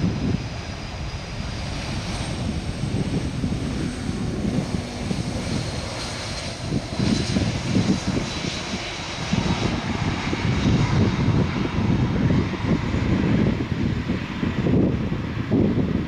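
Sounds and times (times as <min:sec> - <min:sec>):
jet engine rumble: 0:00.0 - 0:16.0.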